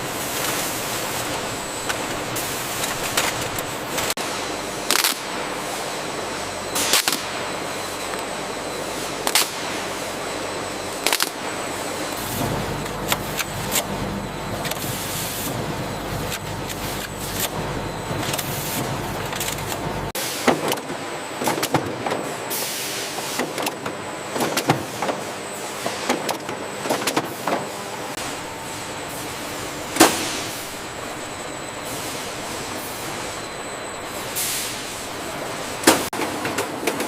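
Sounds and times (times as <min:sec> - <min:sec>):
production line machinery running: 0:00.0 - 0:37.0.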